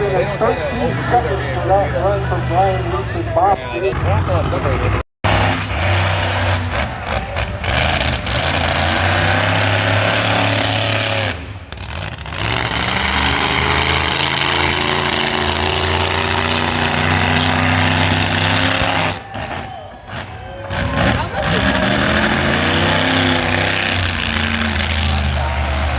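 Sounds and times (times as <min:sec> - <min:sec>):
monster truck engine running: 0:00.0 - 0:25.9.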